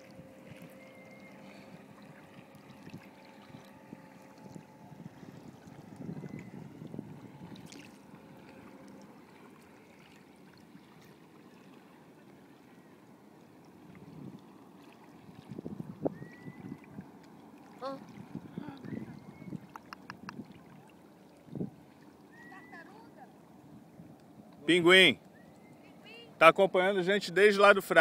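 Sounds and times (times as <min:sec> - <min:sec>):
water lapping against kayak hull: 0:00.0 - 0:24.6.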